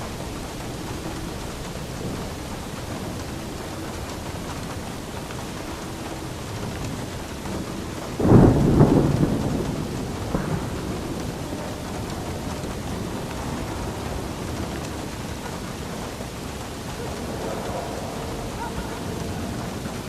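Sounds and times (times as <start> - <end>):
steady rain: 0.0 - 20.0
thunderclap rumbling: 0.0 - 20.0.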